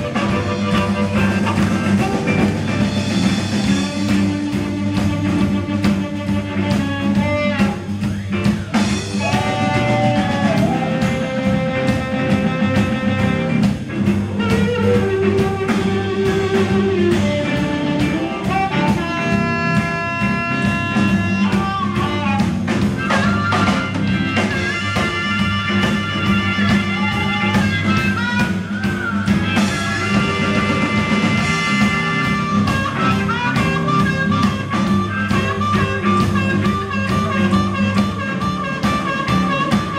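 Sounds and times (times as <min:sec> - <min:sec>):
harmonica bending notes: 0:00.0 - 0:39.9
live blues band: 0:00.0 - 0:39.9.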